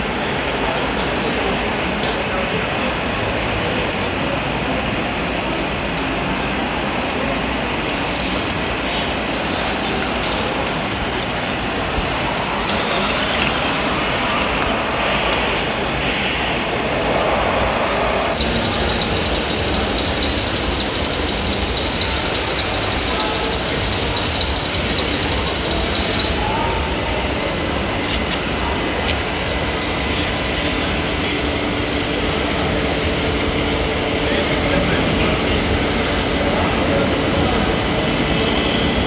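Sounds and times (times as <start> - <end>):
crowd chatter in a hall: 0.0 - 39.0
model trucks running: 0.0 - 39.0
faint high whine: 5.0 - 39.0.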